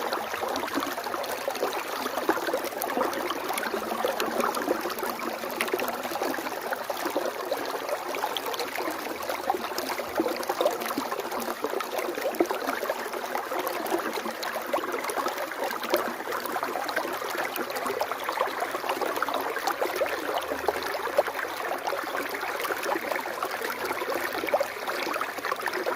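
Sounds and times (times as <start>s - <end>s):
stream water flowing: 0.0s - 25.9s.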